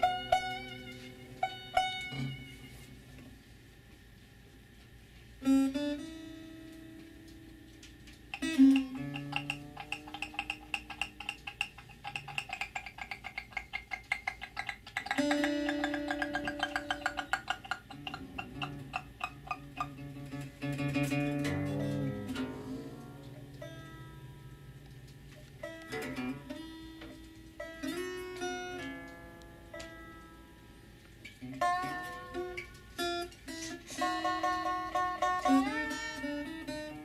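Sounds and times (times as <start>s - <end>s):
plucked acoustic guitar: 0.0s - 3.3s, 5.4s - 37.0s
taps on guitar: 0.0s - 3.3s, 5.4s - 37.0s.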